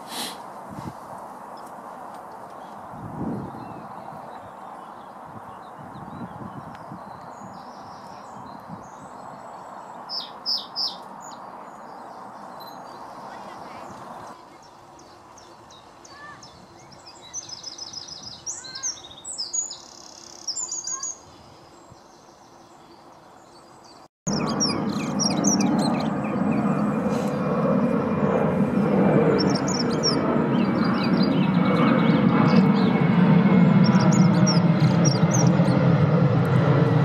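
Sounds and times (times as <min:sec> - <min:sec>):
wren trilling song: 0:02.6 - 0:27.2, 0:29.2 - 0:35.8.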